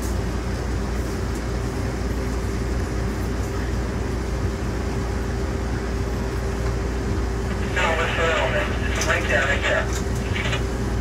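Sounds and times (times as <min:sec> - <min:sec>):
constant hum: 0:00.0 - 0:11.0
wheels rumbling on track: 0:00.0 - 0:11.0.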